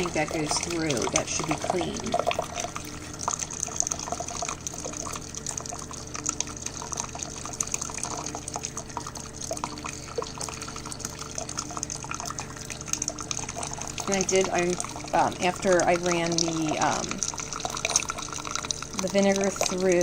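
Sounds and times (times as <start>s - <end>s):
coffee maker humming: 0.0s - 20.0s
hot water spitting and dripping: 0.0s - 20.0s.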